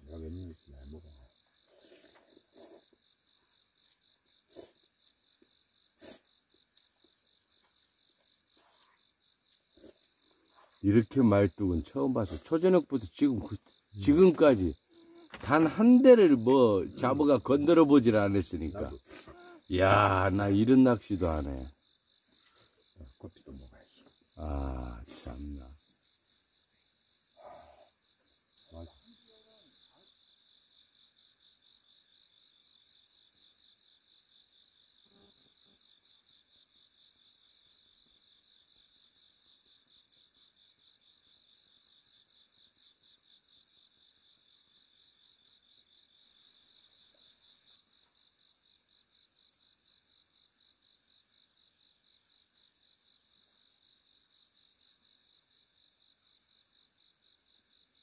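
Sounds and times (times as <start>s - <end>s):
high insect chirp: 0.0s - 58.0s
insects trilling: 0.0s - 58.0s.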